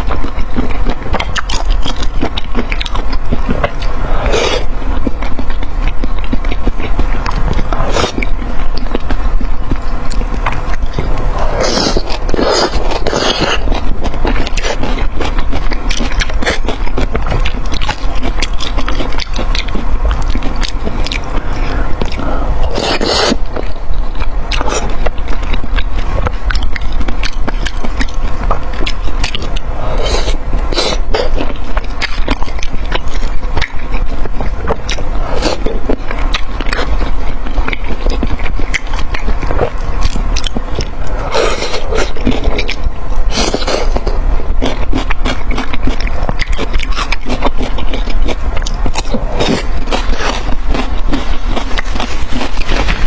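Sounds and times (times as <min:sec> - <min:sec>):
crunchy chewing: 0:00.0 - 0:53.0
slurping: 0:00.0 - 0:53.0.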